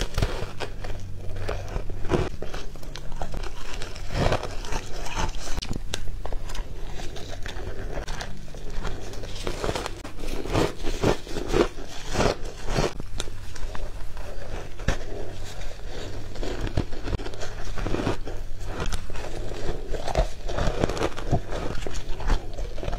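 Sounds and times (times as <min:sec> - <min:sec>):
ice crunching while chewed: 0:00.0 - 0:22.9.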